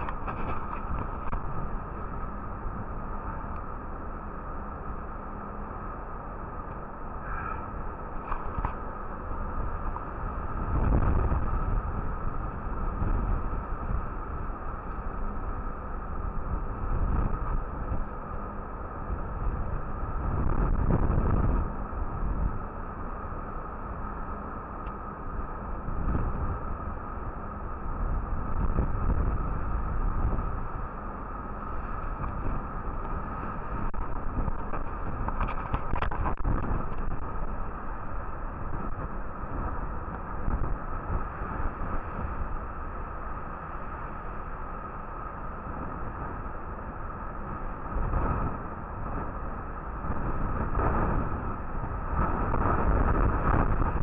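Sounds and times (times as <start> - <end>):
wind buffeting microphone: 0.0 - 22.8, 25.4 - 54.0
rough sea breaking against hull: 0.0 - 23.8, 25.3 - 54.0
steady hum: 0.0 - 54.0.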